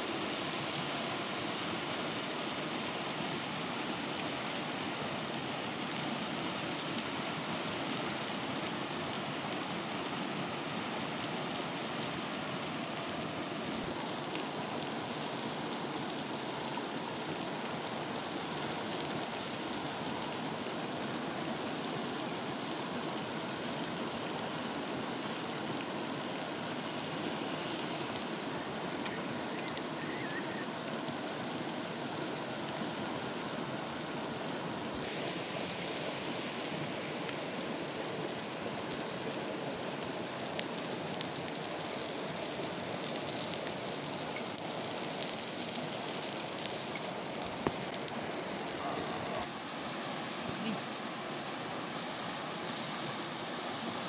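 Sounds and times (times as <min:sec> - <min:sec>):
faint fire crackles: 0:00.0 - 0:54.0
frogs sizzling on hot stone: 0:00.0 - 0:54.0
stream rushing: 0:00.0 - 0:54.0.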